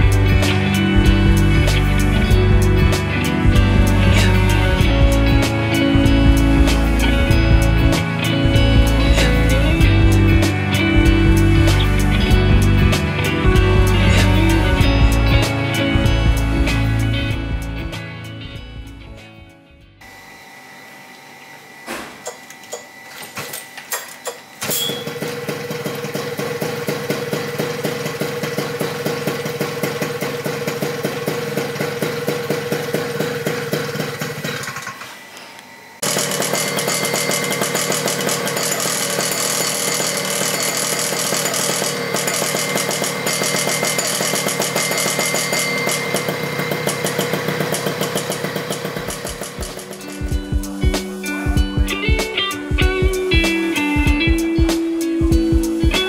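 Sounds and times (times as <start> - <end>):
paramotor engine running: 0.0 - 19.2, 24.7 - 56.0.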